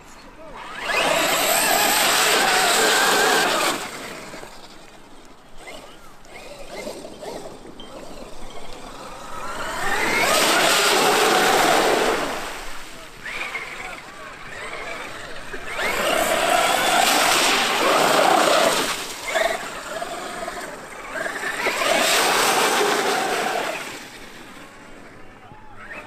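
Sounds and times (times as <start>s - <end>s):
rc truck motor whine: 0.4s - 26.0s.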